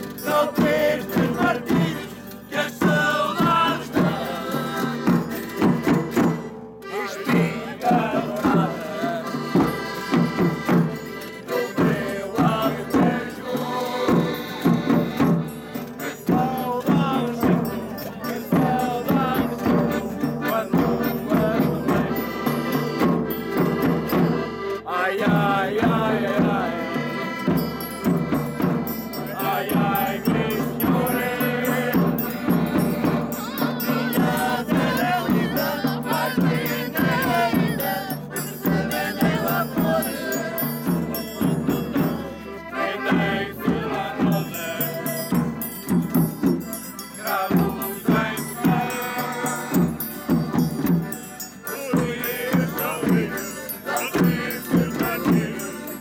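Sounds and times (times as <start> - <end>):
person singing: 0.0 - 6.2, 6.9 - 24.2, 24.8 - 46.5, 47.1 - 56.0
accordion playing: 0.0 - 56.0.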